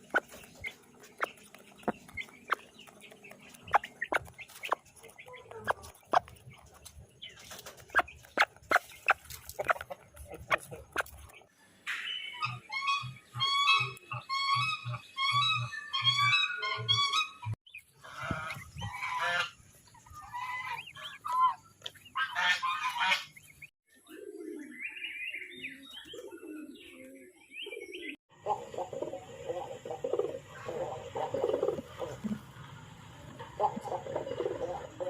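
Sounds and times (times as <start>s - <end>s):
birds calling: 0.0s - 35.0s.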